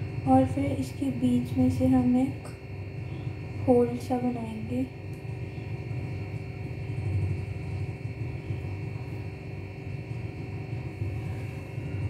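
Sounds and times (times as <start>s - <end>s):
steady low background hum: 0.0s - 12.0s.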